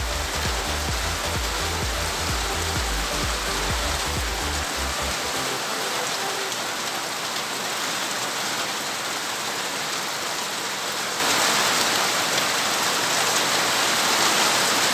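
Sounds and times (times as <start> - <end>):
heavy rain on pavement and foliage: 0.0 - 14.9.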